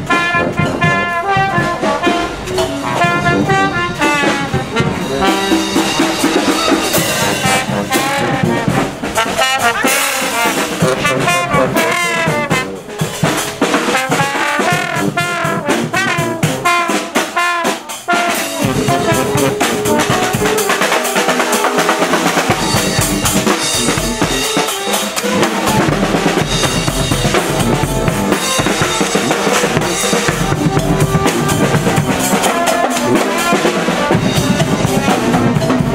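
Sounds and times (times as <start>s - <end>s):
drums beating: 0.0s - 35.9s
horns playing melody: 0.0s - 35.9s
sousaphones: 0.0s - 35.9s.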